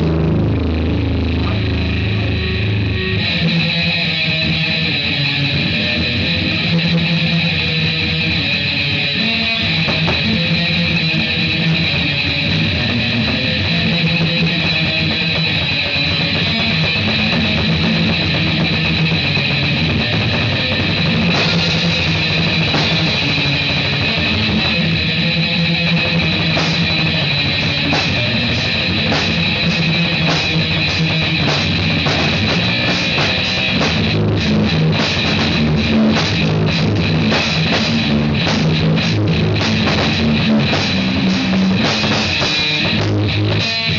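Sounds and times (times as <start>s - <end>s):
distorted electric guitar: 0.0s - 43.9s
drum and cymbal hits: 0.0s - 43.9s.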